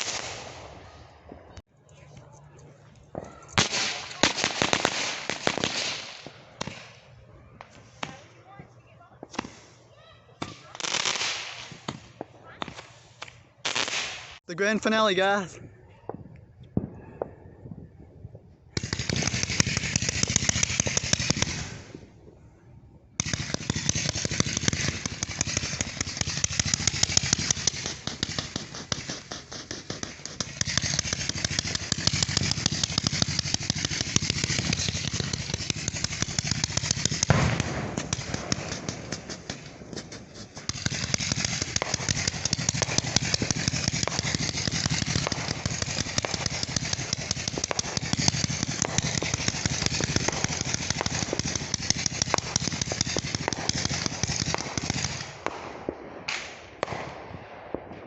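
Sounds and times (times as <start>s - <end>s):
fireworks bangs and crackling: 0.0s - 2.3s, 3.0s - 15.5s, 16.1s - 22.4s, 23.2s - 58.0s.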